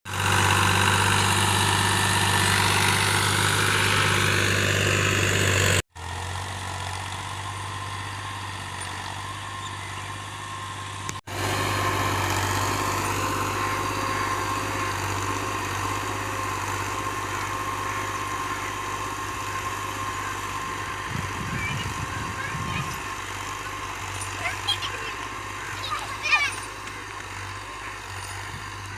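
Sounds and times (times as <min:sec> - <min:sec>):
tractor engine running: 0:00.1 - 0:28.9.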